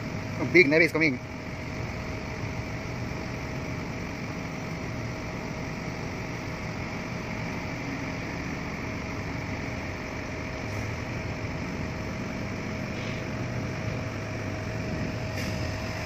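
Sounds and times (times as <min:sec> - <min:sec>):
faint constant whine: 0:00.0 - 0:16.0
low mechanical drone: 0:00.0 - 0:16.0.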